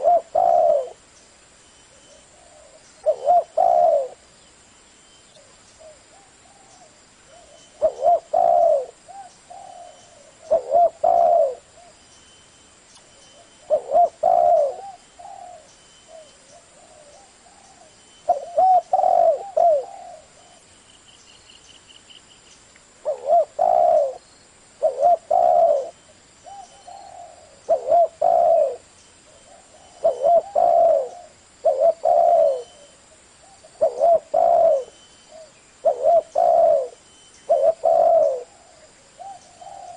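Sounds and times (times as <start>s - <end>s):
dove cooing: 0.0s - 1.0s, 2.0s - 4.3s, 5.4s - 12.0s, 13.2s - 20.7s, 23.0s - 24.2s, 24.8s - 39.9s.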